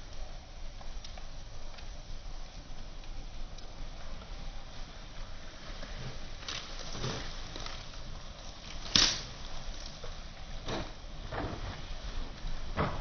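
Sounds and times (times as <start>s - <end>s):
fire popping: 0.0s - 13.0s
firewood crackling: 0.0s - 13.0s.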